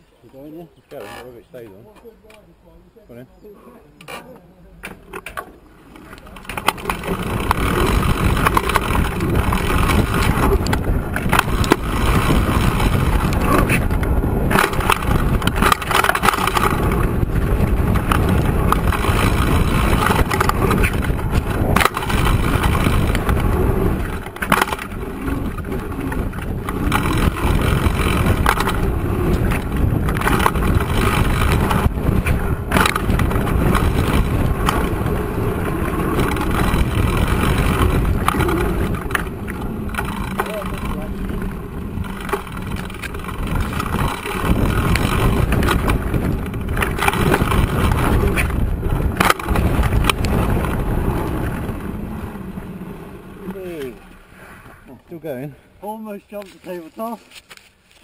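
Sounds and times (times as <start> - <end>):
bike tyres rumbling on dirt: 5.0 - 58.0.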